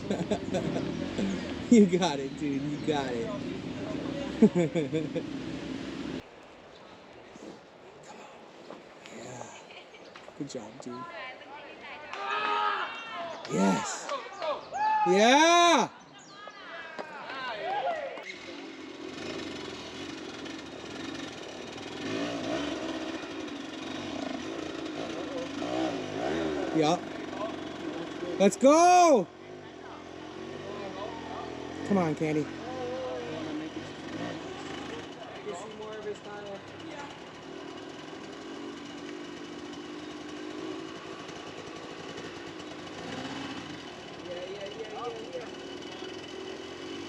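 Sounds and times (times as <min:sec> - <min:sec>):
dirt bike engines revving: 0:00.0 - 0:06.3, 0:12.2 - 0:16.3, 0:17.2 - 0:47.0.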